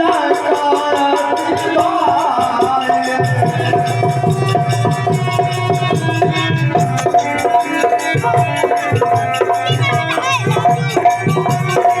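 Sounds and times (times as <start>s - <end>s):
drum strokes: 0.1s - 12.0s.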